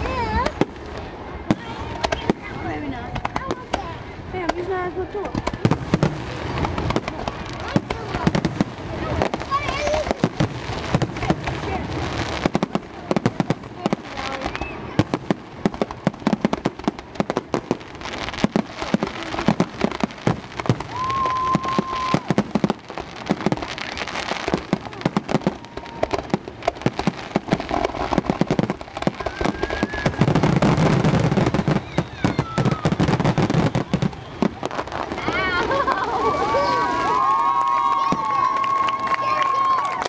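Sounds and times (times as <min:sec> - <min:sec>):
firework bangs and crackles: 0:00.0 - 0:40.0.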